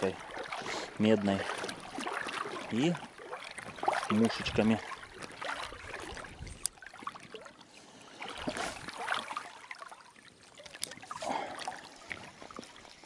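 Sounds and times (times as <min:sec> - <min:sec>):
river water lapping: 0:00.0 - 0:13.0.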